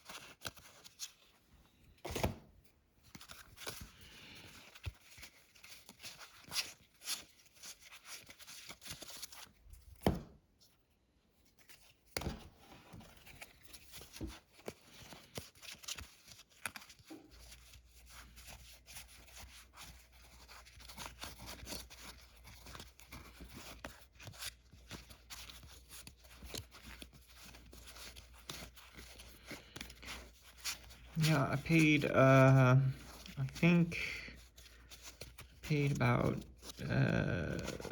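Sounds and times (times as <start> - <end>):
cards and packaging rustling: 0.0 - 10.8, 11.4 - 37.9.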